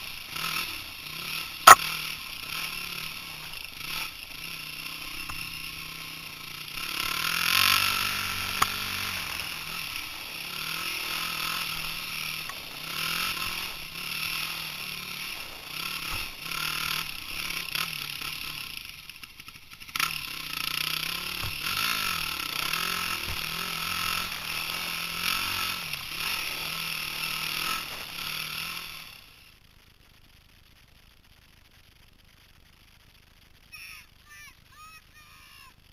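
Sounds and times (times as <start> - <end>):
dirt bike engine revving: 0.0 - 29.5.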